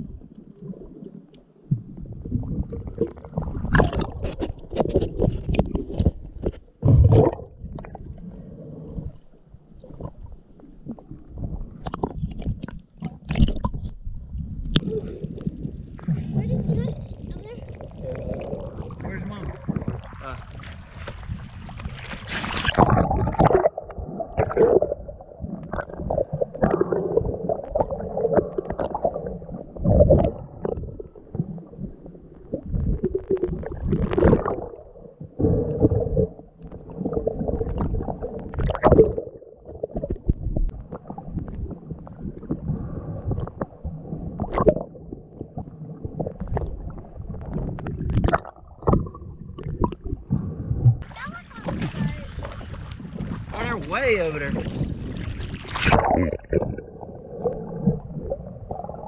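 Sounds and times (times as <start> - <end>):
muffled underwater gurgling: 0.0 - 21.8, 22.4 - 59.0.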